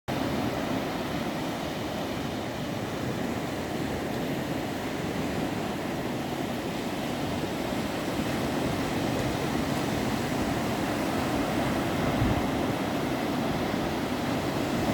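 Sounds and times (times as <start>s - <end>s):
sea waves washing on beach: 0.1s - 14.9s.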